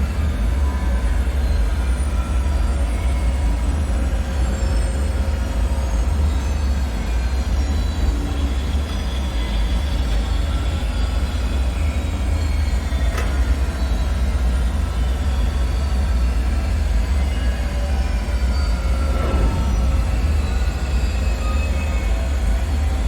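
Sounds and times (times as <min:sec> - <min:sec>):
deep ambient drone: 0:00.0 - 0:23.0.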